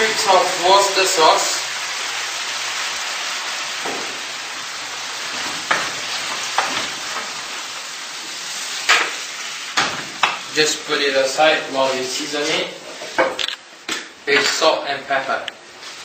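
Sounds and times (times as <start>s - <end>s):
meat sizzling in a frying pan: 0.0s - 13.4s.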